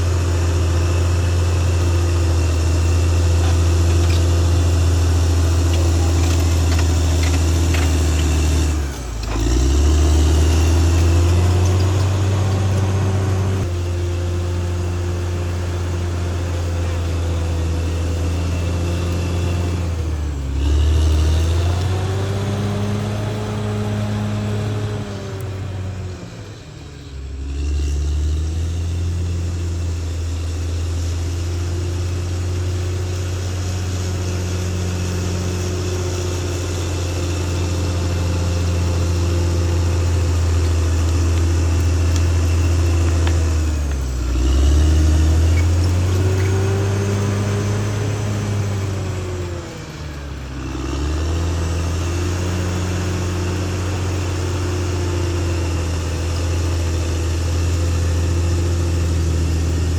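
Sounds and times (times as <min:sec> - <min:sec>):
bulldozer diesel engine humming: 0:00.0 - 0:59.9.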